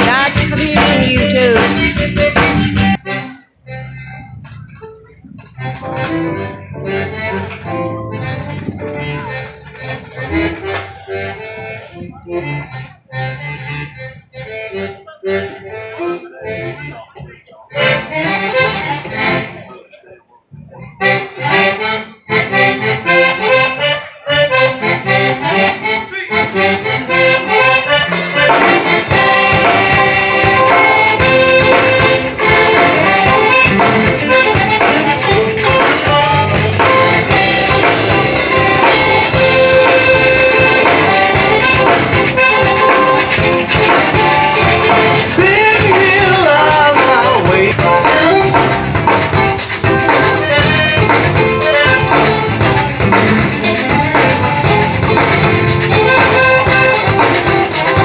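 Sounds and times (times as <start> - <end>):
accordion: 0.0 - 20.0, 20.9 - 58.0
zydeco band playing live: 0.0 - 58.0.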